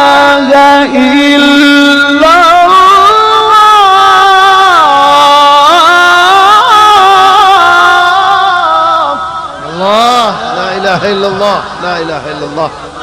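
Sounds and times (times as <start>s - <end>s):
man chanting melodic recitation: 0.0s - 11.4s.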